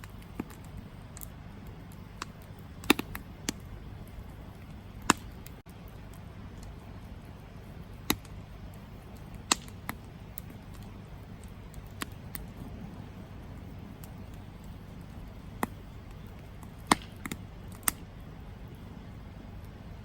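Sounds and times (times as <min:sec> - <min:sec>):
burning wood crackling and popping: 0:00.0 - 0:20.0
low rumble of flames: 0:00.0 - 0:20.0.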